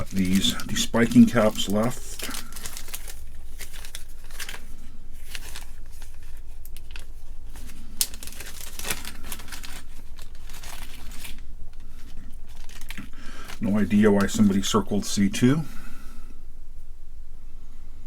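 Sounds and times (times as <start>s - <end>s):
packaging crinkling and rustling: 0.0s - 15.5s.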